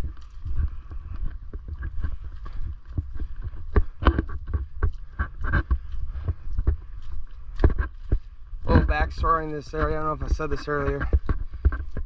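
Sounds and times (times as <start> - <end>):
footsteps on dirt trail: 0.0 - 12.0
microphone handling noise: 0.0 - 12.0
wind rumble: 0.0 - 12.0.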